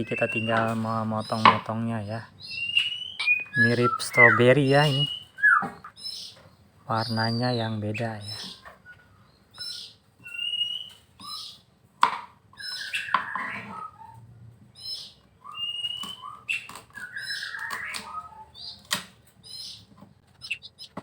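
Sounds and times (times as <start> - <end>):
songbirds calling: 0.0 - 21.0.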